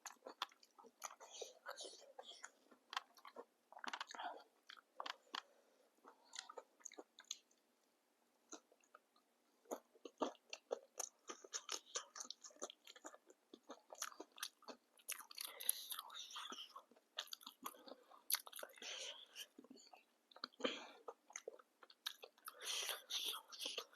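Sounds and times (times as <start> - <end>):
chewing and biting: 0.0 - 7.6, 9.7 - 23.9.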